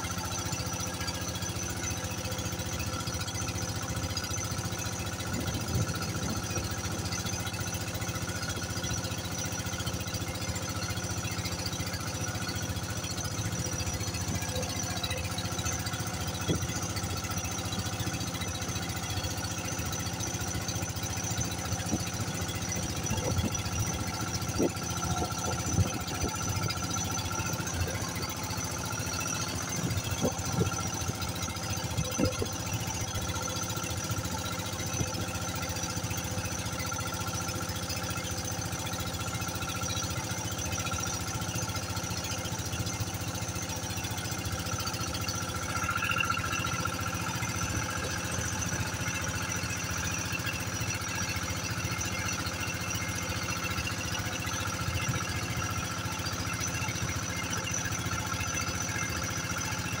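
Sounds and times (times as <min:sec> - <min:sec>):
boat motor running: 0:00.0 - 1:00.0.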